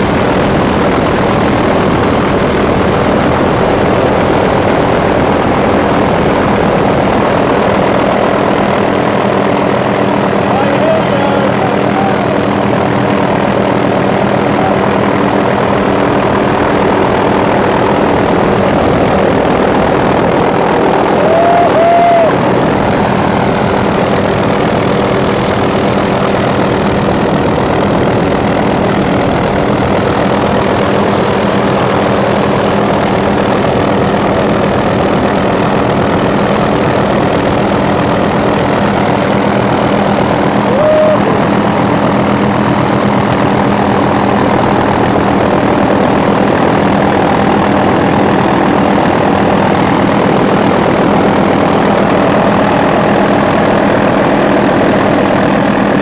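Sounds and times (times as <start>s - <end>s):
steady engine drone: 0.0s - 56.0s.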